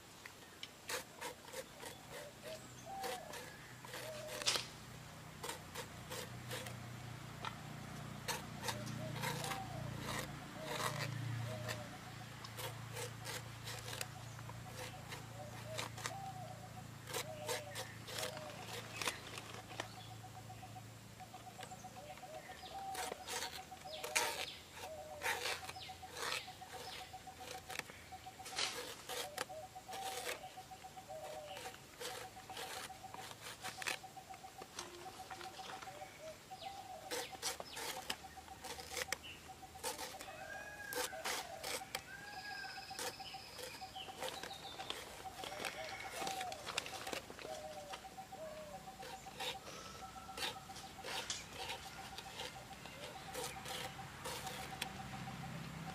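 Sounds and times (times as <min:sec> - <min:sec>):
bird calls: 0:00.5 - 0:04.8, 0:07.4 - 0:55.9
crisp cutting strokes: 0:00.6 - 0:20.0, 0:21.5 - 0:36.0, 0:36.6 - 0:55.9.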